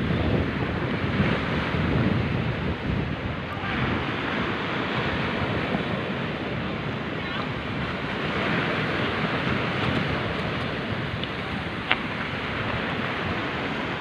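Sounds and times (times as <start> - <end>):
sea waves surging: 0.0 - 14.0
wind buffeting microphone: 0.0 - 14.0.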